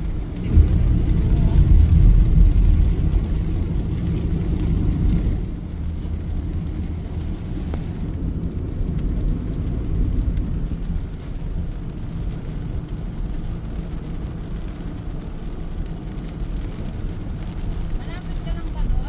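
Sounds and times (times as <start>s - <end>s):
motor vehicle rumbling: 0.0s - 19.0s.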